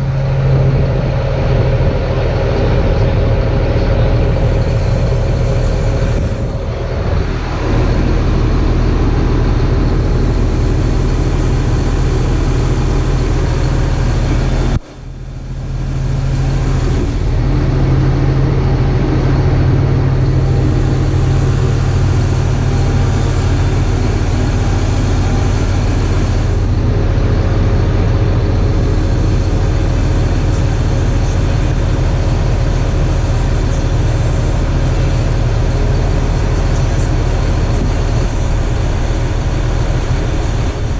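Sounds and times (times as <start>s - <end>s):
tractor engine humming: 0.0s - 40.9s.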